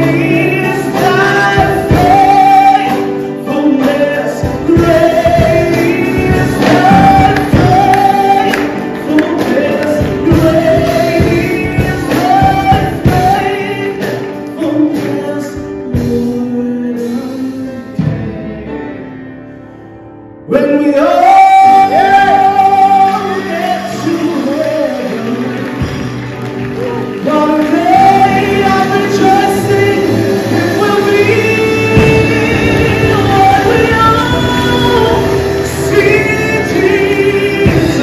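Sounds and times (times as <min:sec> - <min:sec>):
man singing into microphone: 0:00.0 - 0:19.2, 0:20.4 - 0:26.2, 0:26.8 - 0:38.0
musical accompaniment: 0:00.0 - 0:38.0.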